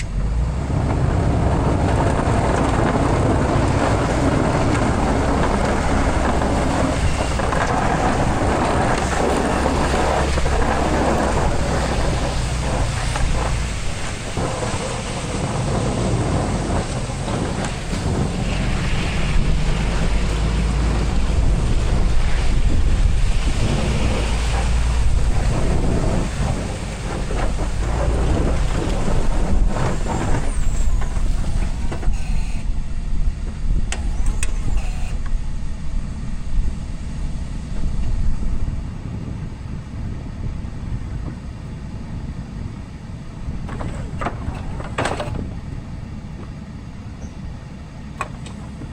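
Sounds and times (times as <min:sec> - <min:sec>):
snow plow rushing noise: 0:00.0 - 0:48.9
truck engine rumble: 0:00.0 - 0:48.9.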